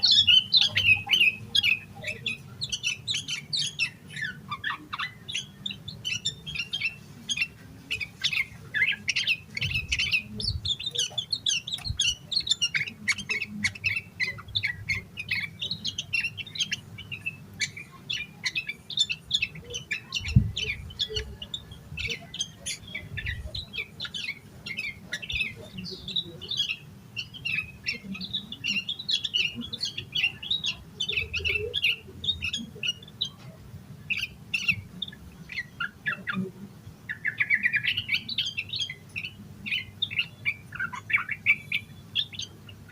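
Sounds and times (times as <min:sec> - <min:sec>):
bulbul chirping and squawking: 0:00.0 - 0:42.9.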